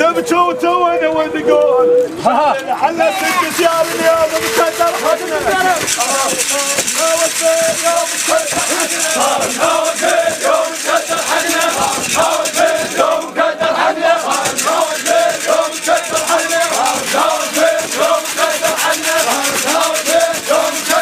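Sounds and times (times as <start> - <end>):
crowd noise: 0.0 - 21.0
men chanting rhythmically: 2.9 - 21.0.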